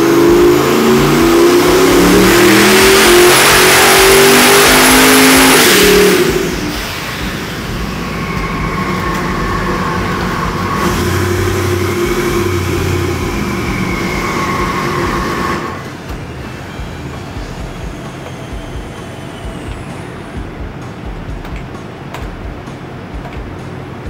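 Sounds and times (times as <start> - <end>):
engine idling with whine: 0.0 - 24.0.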